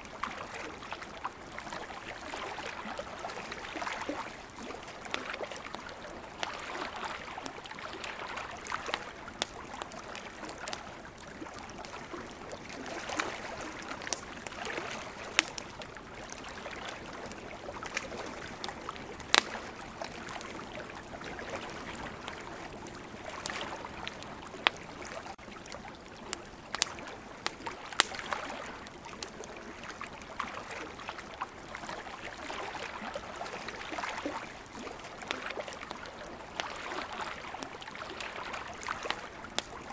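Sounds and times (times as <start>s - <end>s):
campfire crackling and popping: 0.1s - 39.9s.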